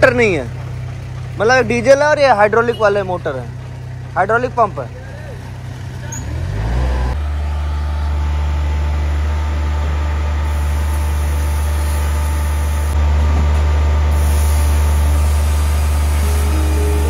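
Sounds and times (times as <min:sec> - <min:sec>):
small diesel engine running: 0:00.0 - 0:17.0.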